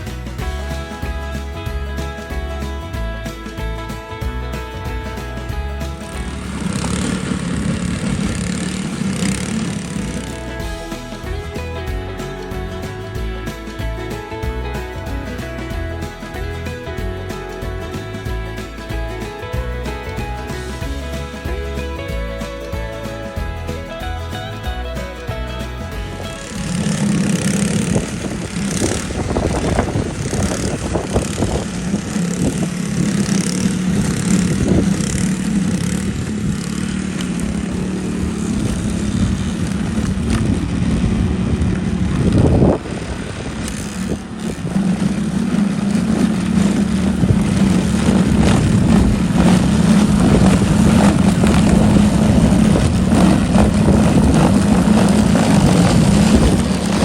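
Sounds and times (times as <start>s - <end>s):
snow thrower engine running: 0.0s - 57.0s.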